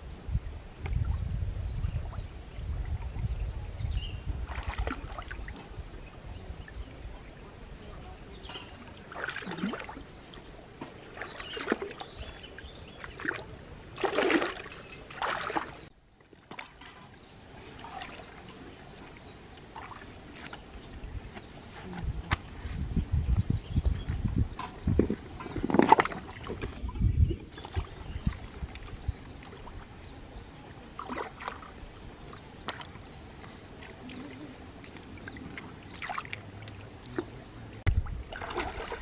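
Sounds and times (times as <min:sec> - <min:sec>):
stream water splashing: 0:04.3 - 0:06.9, 0:08.4 - 0:22.7, 0:24.6 - 0:39.0.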